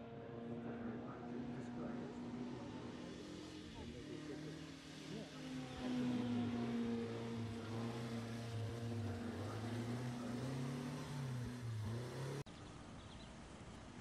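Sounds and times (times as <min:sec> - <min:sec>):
racing car engine: 0:00.0 - 0:14.0.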